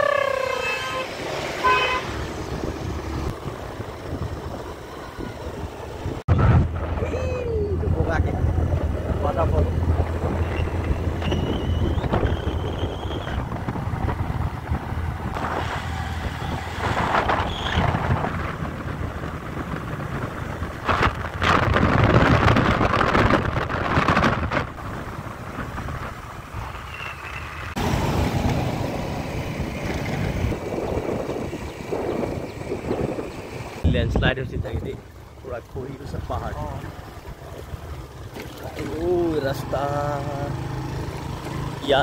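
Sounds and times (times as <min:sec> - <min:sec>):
vehicle engine and road rumble: 0:00.0 - 0:42.0
wind buffeting microphone: 0:02.2 - 0:40.0.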